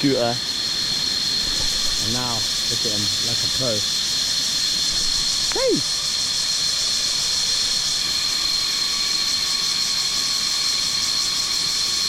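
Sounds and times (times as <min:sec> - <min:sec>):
high insect whine: 0:00.0 - 0:12.0
shrill insect chorus: 0:00.0 - 0:12.0.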